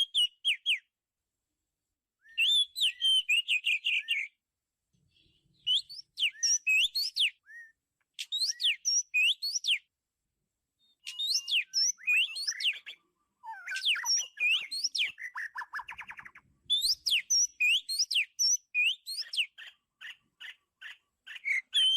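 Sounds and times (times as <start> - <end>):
bird whistling song: 0.0 - 0.9, 2.2 - 4.4, 5.6 - 9.9, 10.8 - 21.9.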